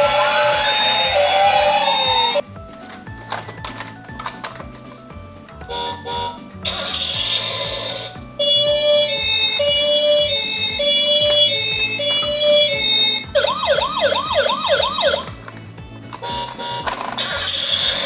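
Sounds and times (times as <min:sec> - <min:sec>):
toy ambulance siren: 0:00.0 - 0:02.4, 0:05.6 - 0:18.0.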